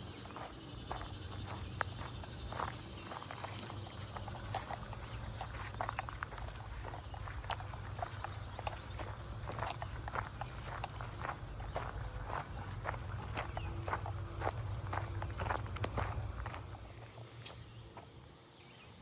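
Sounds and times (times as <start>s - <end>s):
steady low rumble: 0.0s - 17.0s
footsteps walking: 0.0s - 18.3s.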